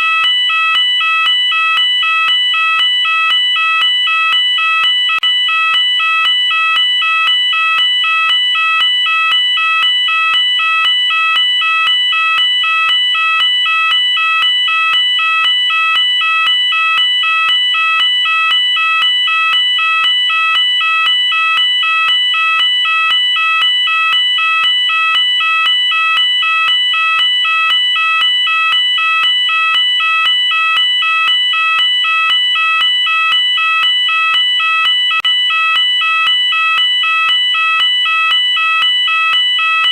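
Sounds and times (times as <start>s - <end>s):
two-tone fire alarm warble: 0.0s - 39.9s.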